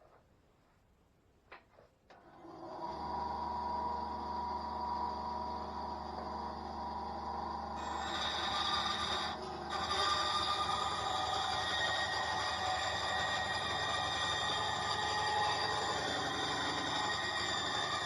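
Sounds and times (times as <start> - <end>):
power tool motor whining: 2.8 - 18.0.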